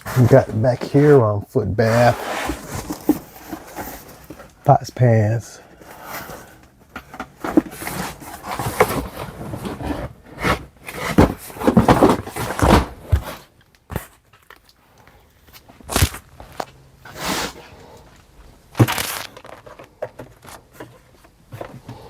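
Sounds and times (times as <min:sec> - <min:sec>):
rustling and scraping of boxes: 0:00.0 - 0:22.0.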